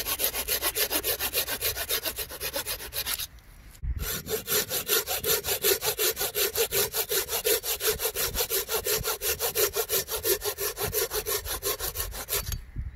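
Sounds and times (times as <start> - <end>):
pruning saw cutting wood: 0.0 - 3.3, 4.0 - 12.6.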